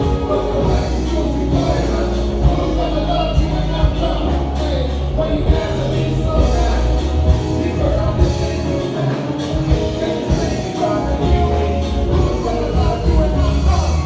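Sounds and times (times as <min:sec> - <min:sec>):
music with bass and beat: 0:00.0 - 0:14.0
person singing: 0:00.0 - 0:14.0.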